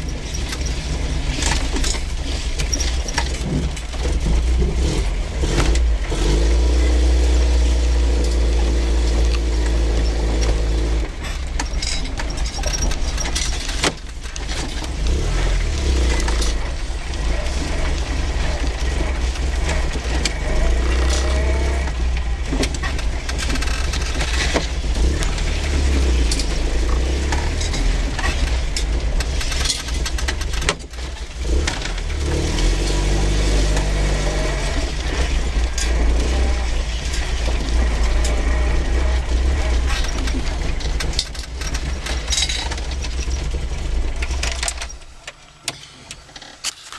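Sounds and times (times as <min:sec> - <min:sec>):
car engine revving through gears: 0:00.0 - 0:46.6
car body squeaks and rattles: 0:00.0 - 0:46.9.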